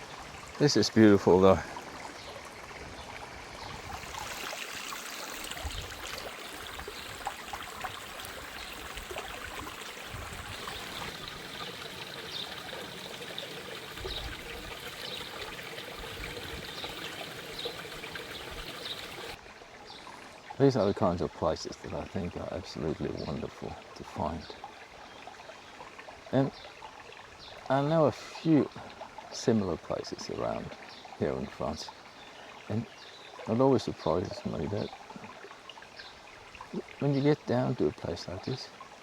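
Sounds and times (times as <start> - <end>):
creek running over stones: 0.0 - 39.0.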